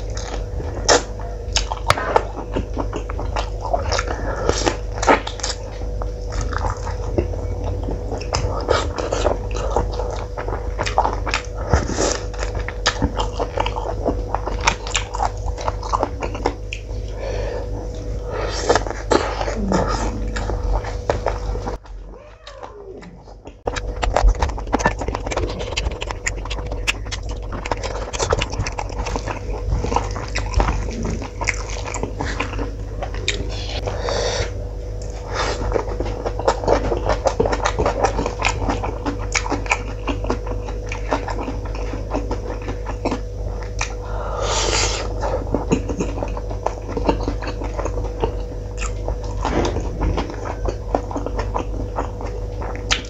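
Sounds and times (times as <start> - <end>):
steady low hum: 0.0 - 53.0
wet chewing and lip-smacking: 0.0 - 53.0.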